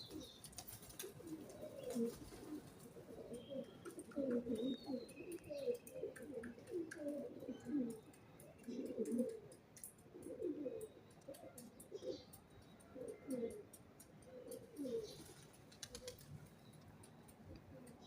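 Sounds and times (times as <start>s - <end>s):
pigeons cooing: 0.0s - 16.3s.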